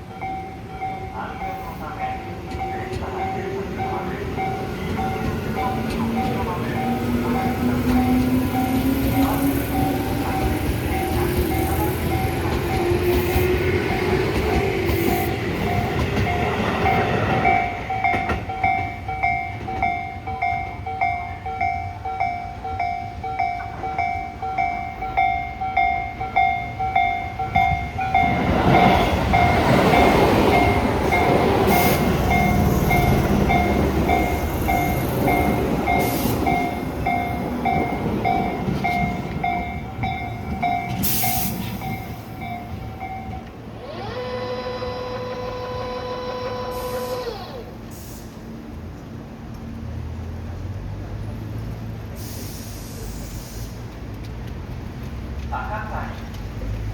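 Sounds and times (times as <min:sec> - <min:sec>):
electric train rumbling past: 0:00.0 - 0:56.9.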